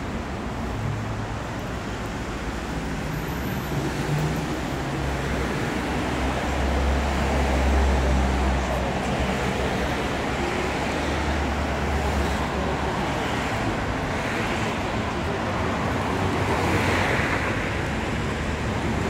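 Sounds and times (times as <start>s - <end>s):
vehicles passing: 0.0s - 19.0s.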